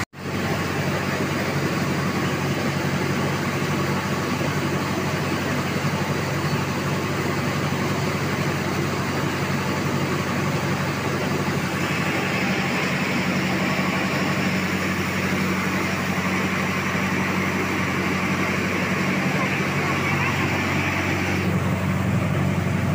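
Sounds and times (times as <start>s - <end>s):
motor hum: 0.0s - 22.9s
grain rushing through machine: 0.2s - 22.9s.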